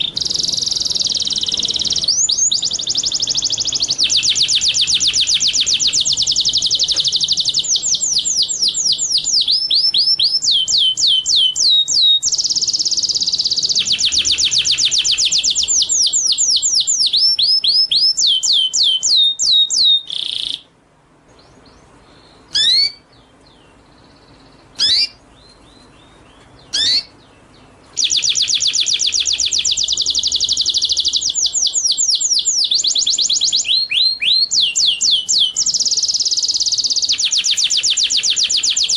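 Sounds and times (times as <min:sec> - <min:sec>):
bird call notes: 0:00.0 - 0:20.7, 0:21.5 - 0:38.9
songbird trilling: 0:00.0 - 0:20.7, 0:21.4 - 0:38.9.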